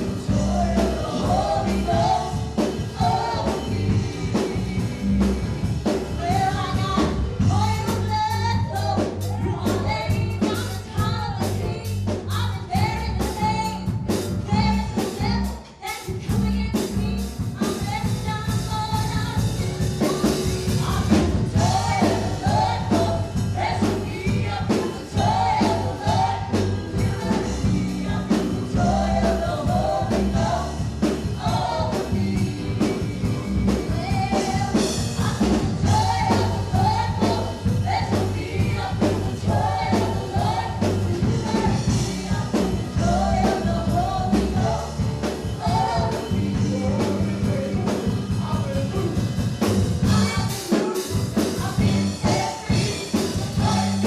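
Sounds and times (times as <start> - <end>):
people singing: 0.0 - 13.9, 17.5 - 54.0
band with drums and bass: 0.0 - 54.0.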